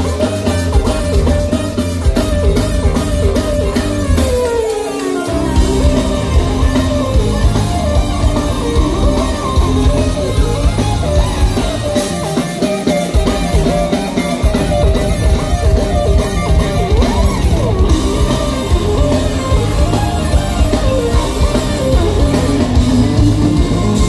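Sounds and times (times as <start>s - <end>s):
bass guitar: 0.0s - 24.0s
drum kit: 0.0s - 24.0s
electric guitar: 0.0s - 24.0s
falling pitch glide: 1.3s - 24.0s.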